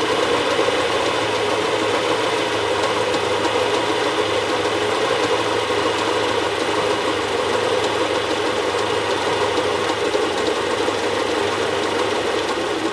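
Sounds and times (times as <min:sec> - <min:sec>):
car engine idling low: 0:00.0 - 0:12.9.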